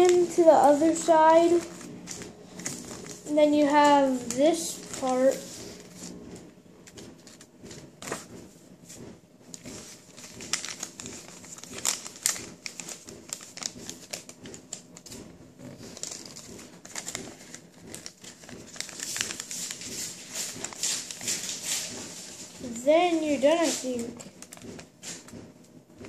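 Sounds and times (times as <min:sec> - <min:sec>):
paper rustling and crinkling: 0:00.0 - 0:25.5.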